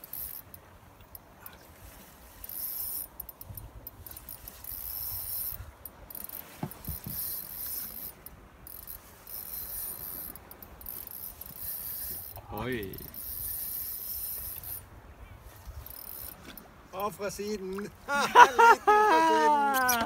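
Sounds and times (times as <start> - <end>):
fishing reel drag whirring: 0.0 - 16.8, 19.7 - 20.0.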